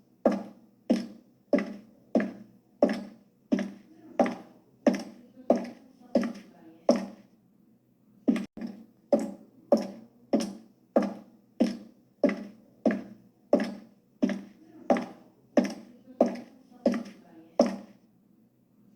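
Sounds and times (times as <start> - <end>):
high heels clicking on hard floor: 0.3 - 7.2, 8.3 - 18.0.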